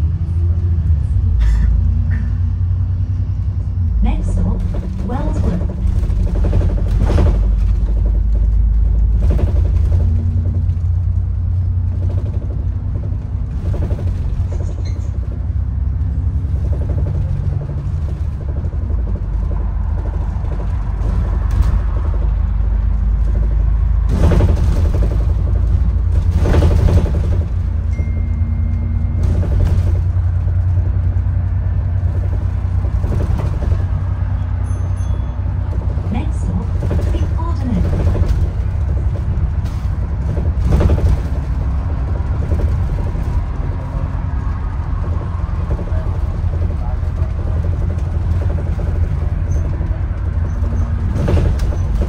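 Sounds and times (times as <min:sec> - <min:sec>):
bus engine and road rumble: 0:00.0 - 0:52.0
knocks and rattles: 0:04.0 - 0:52.0.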